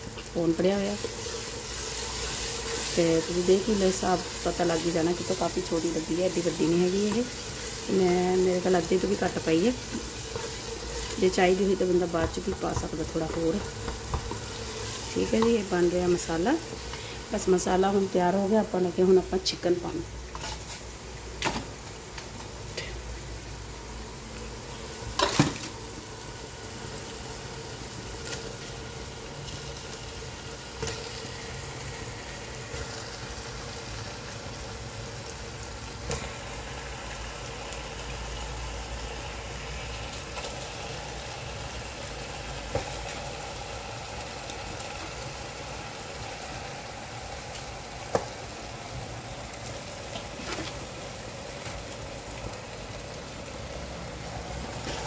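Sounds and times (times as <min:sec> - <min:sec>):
masala sizzling in a pot: 0:00.0 - 0:55.0.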